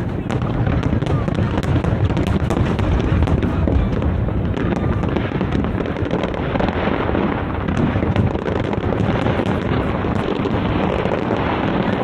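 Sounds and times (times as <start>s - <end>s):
fireworks booming: 0.0s - 12.0s
fireworks crackling and popping: 0.0s - 12.0s.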